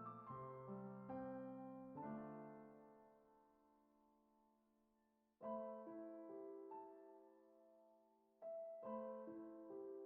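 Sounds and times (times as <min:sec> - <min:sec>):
soft piano music: 0:00.0 - 0:04.5, 0:05.4 - 0:10.0.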